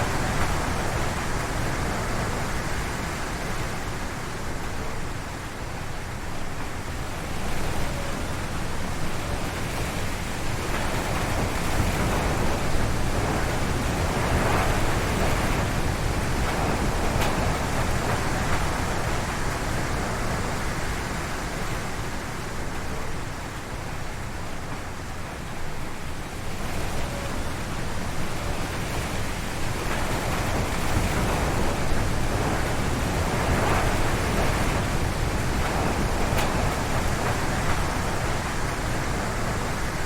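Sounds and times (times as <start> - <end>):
strong wind gusting through trees: 0.0 - 40.0.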